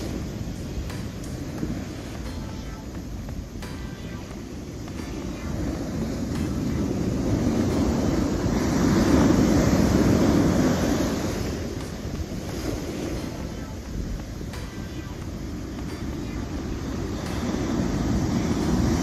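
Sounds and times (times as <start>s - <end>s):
ocean waves breaking: 0.0s - 19.0s
wind on microphone: 0.0s - 19.0s.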